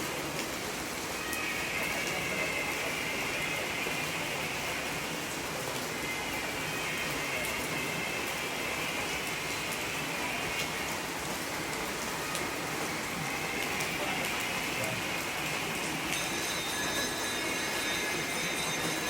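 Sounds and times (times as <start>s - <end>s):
rain patter in a cave: 0.0s - 19.0s.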